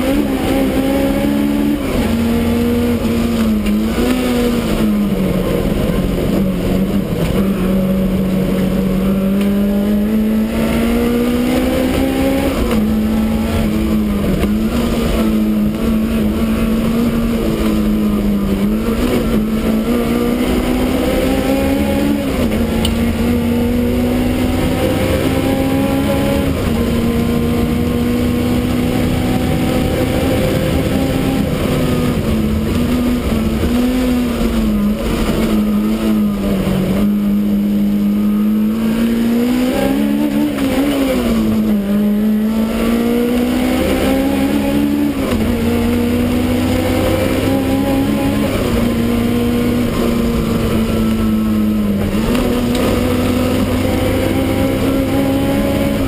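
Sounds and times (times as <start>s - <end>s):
race car engine at high revs: 0.0s - 56.0s
road and wind rumble: 0.0s - 56.0s.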